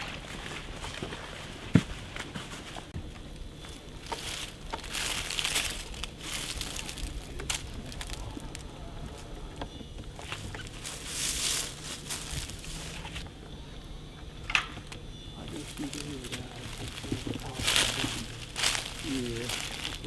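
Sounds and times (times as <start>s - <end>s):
rustling in the woods: 0.0s - 20.0s.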